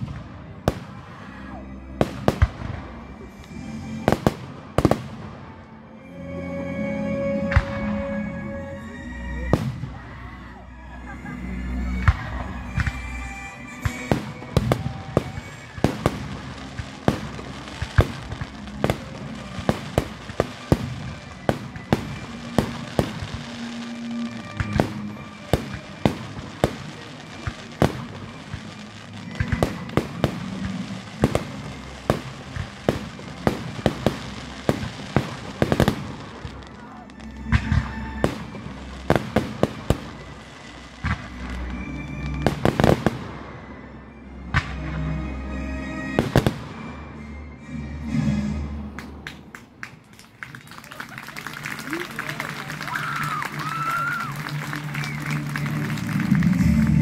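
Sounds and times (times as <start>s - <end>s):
firework crackling: 0.0s - 5.7s, 11.0s - 43.6s, 46.1s - 46.9s, 49.0s - 57.0s.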